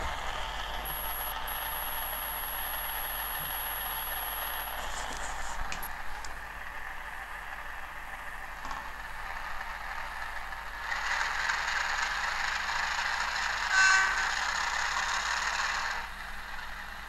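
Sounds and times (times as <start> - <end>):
model train diesel engine sound: 0.0 - 17.0.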